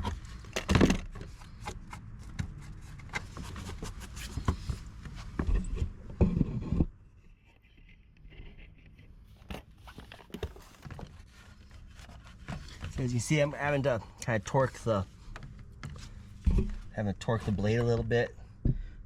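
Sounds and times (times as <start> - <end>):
faint scrapes and knocks: 1.2 - 14.0, 14.6 - 18.9.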